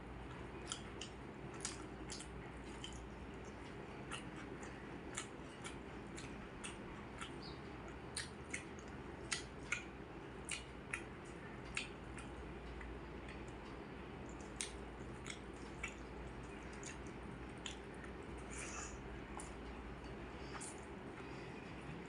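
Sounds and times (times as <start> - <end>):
steady low hum: 0.0 - 22.0
person chewing with mouth clicks: 0.2 - 21.8.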